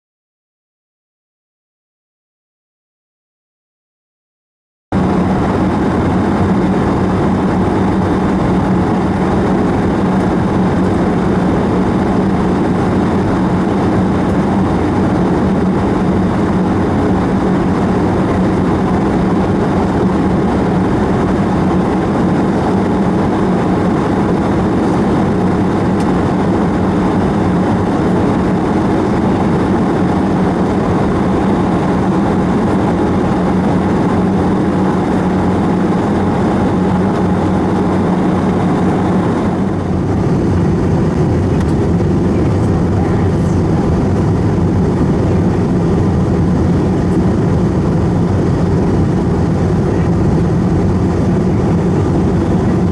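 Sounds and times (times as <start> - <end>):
airplane cabin engine drone: 4.9 - 52.9.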